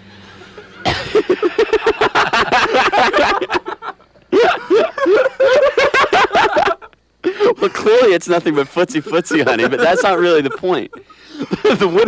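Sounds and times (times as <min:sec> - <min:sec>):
men laughing hard: 0:00.0 - 0:12.0.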